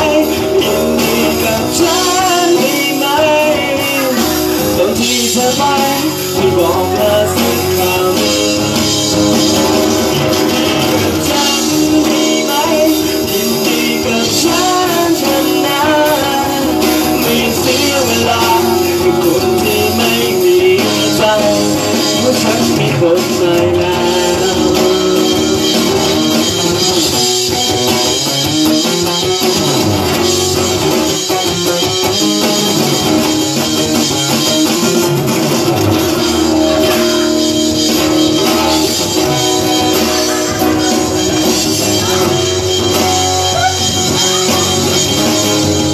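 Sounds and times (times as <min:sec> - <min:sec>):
person singing: 0:00.0 - 0:27.9, 0:35.8 - 0:45.9
guitar: 0:00.0 - 0:45.9
keyboard: 0:00.0 - 0:45.9.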